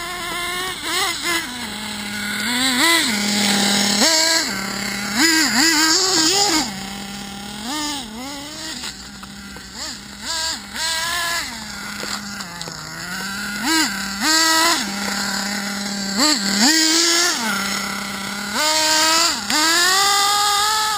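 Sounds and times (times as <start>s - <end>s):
nitro engine buzzing: 0.0s - 20.9s.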